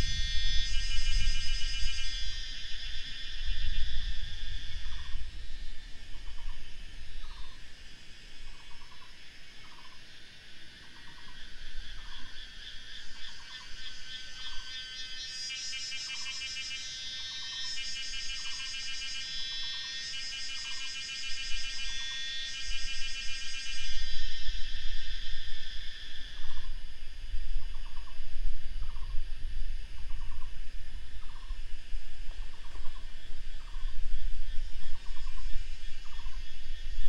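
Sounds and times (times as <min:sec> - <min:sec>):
insect layer switching on and off: 0:00.0 - 0:37.0
insects chorus: 0:00.0 - 0:37.0.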